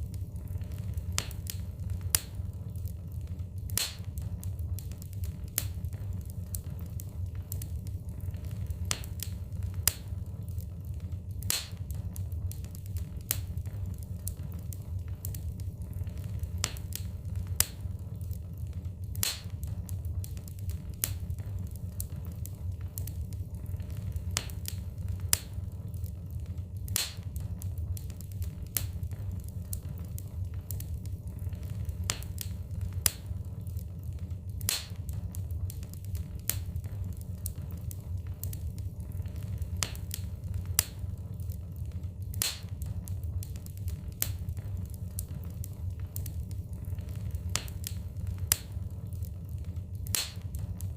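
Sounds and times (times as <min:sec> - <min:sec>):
burning logs crackling and popping: 0:00.0 - 0:50.9
wood fire rumbling: 0:00.0 - 0:50.9.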